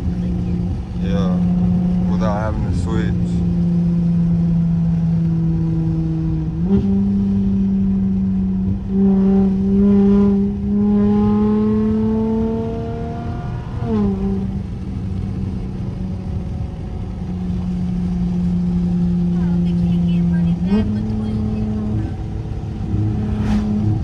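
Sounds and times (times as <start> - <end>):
car exhaust accelerating with gear shifts: 0.0 - 24.0.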